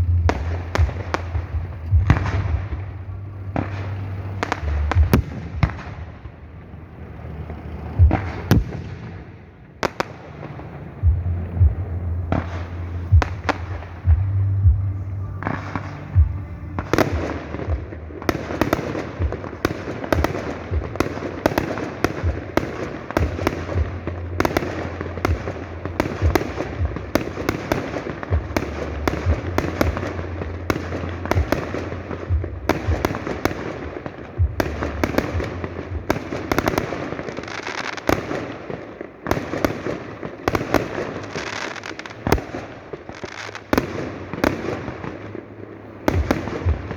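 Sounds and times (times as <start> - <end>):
fireworks bursting and crackling: 0.0 - 46.9.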